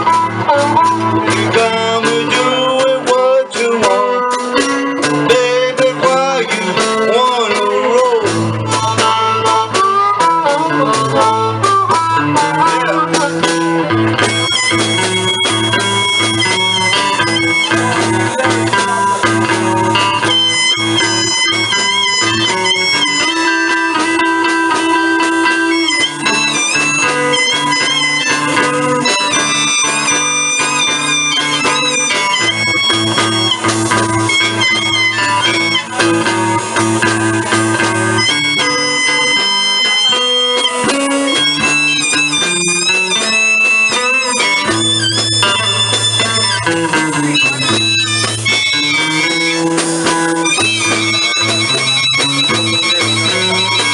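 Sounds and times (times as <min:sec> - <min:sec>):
bass line: 0:00.0 - 0:53.9
blues guitar: 0:00.0 - 0:53.9
lead guitar bending notes: 0:00.0 - 0:53.9.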